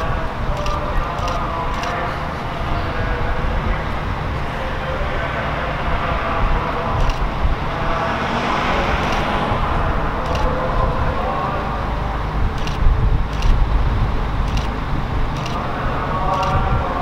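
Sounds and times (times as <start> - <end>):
diesel railcar engine drone: 0.0 - 17.0.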